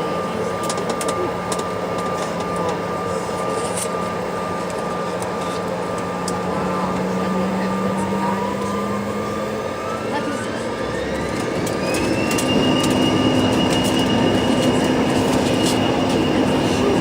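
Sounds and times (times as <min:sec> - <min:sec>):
jet engines humming and whining: 0:00.0 - 0:17.0.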